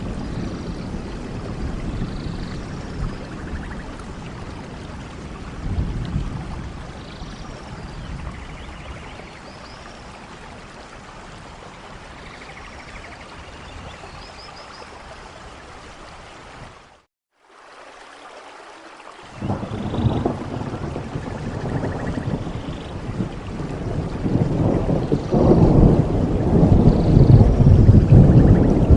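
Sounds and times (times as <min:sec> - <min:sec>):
low rumble of thunder: 0:00.0 - 0:14.3, 0:19.4 - 0:28.9
heavy rain in a forest: 0:00.0 - 0:28.9.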